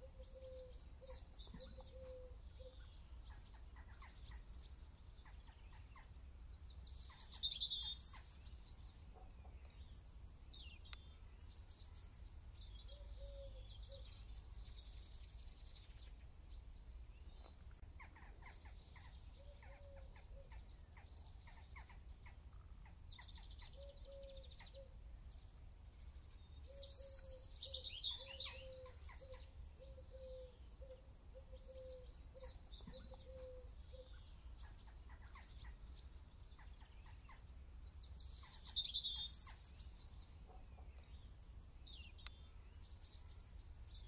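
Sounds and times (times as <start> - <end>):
birds chirping and twittering: 0.0 - 44.0.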